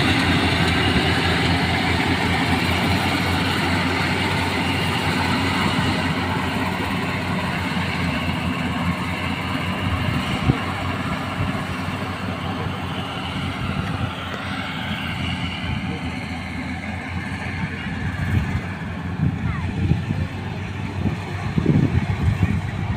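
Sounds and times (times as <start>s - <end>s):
combine harvester droning: 0.0s - 22.9s.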